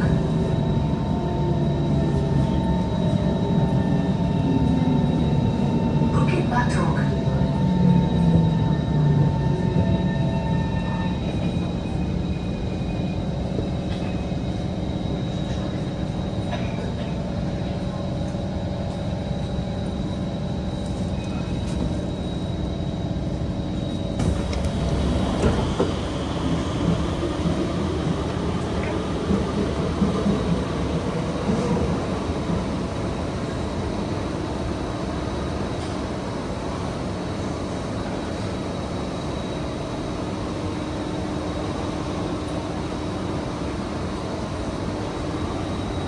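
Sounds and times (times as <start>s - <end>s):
train wheels humming on rails: 0.0s - 46.0s.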